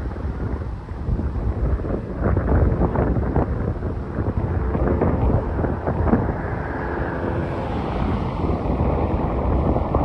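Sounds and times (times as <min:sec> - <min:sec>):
propeller plane droning: 0:00.0 - 0:10.0
wind buffeting microphone: 0:00.0 - 0:10.0.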